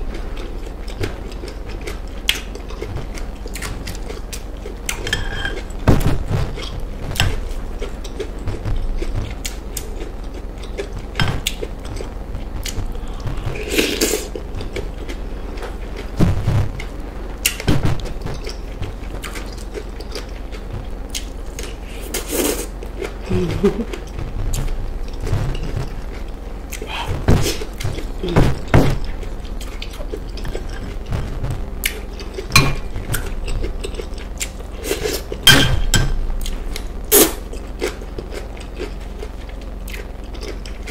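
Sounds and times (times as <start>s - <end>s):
wet chewing: 6.4s - 35.4s, 36.4s - 40.9s.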